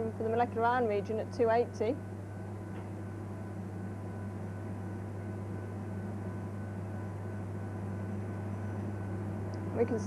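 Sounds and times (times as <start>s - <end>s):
low machine hum with hiss: 0.0s - 10.0s.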